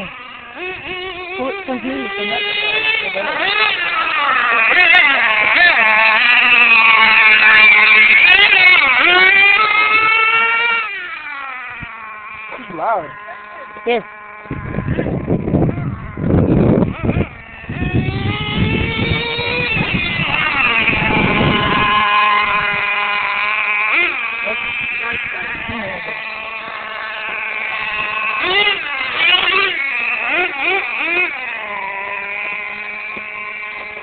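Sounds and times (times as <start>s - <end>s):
small engine whining at high revs: 0.0s - 34.0s.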